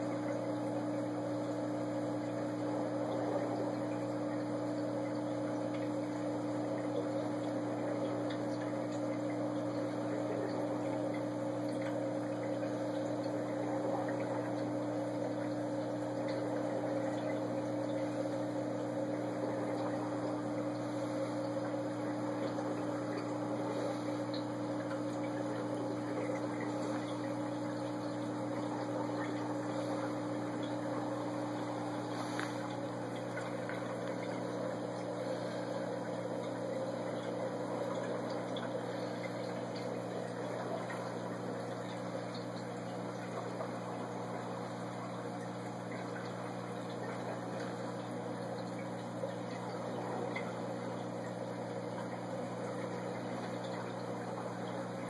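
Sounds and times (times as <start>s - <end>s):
aquarium pump hum: 0.0s - 55.0s
water noise: 0.0s - 55.0s.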